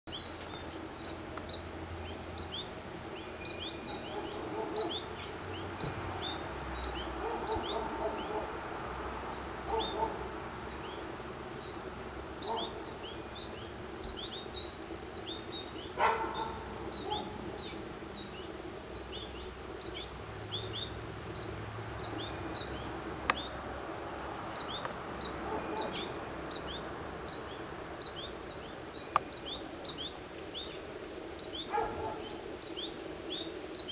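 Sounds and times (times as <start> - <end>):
lower bird calls: 0.1 - 8.6, 9.6 - 33.9
songbirds chirping: 0.1 - 33.9.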